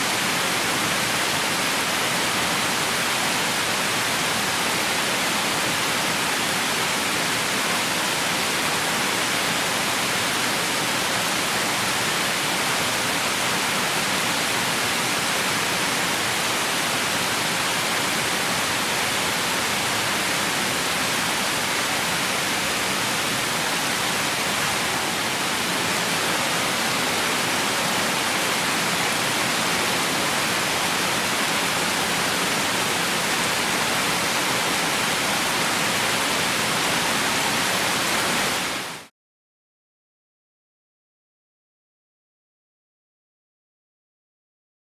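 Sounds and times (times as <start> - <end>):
heavy rain: 0.0 - 39.1.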